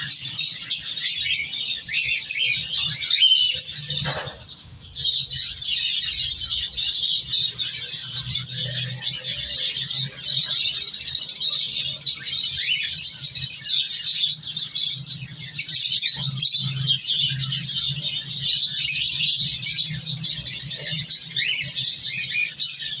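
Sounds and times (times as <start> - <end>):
cockatiels chirping and chattering: 0.0 - 23.0.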